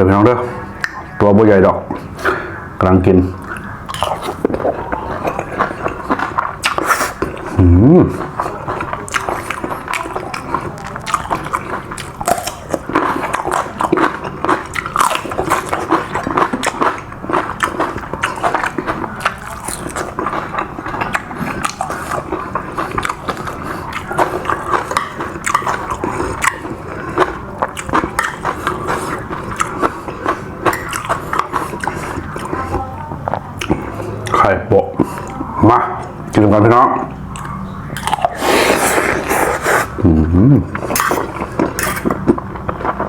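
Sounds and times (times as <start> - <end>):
person chewing food: 3.4 - 36.4, 37.1 - 43.0.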